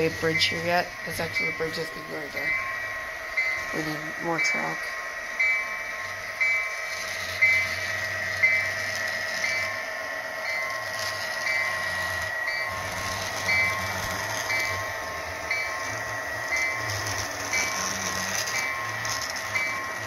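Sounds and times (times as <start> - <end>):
bell-like ring: 0.0 - 20.0
electric motor whine: 0.0 - 20.0.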